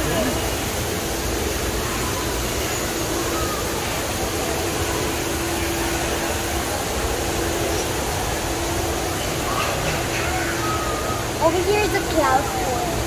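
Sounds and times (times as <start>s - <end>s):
faint crowd voices: 0.0s - 13.0s
rushing indoor hall noise: 0.0s - 13.0s.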